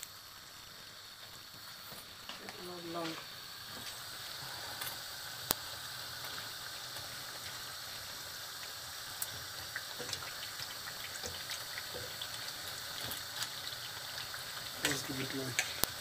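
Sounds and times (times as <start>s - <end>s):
fritters sizzling in hot oil: 0.0s - 16.0s.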